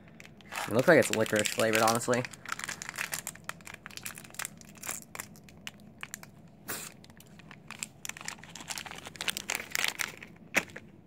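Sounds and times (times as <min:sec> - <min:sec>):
snack package crinkling: 0:00.0 - 0:11.0
package ripping: 0:00.2 - 0:10.9.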